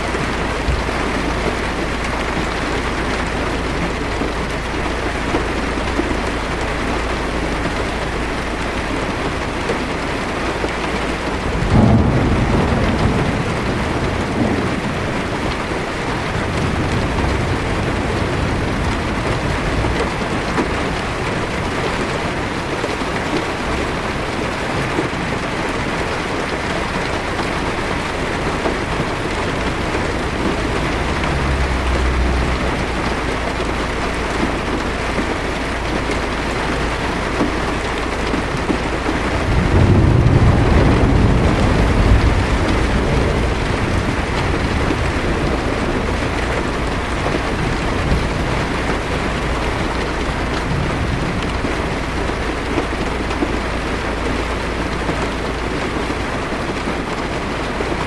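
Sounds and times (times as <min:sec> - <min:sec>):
heavy rain on car roof: 0:00.0 - 0:58.0
thunder rumbling: 0:00.0 - 0:58.0.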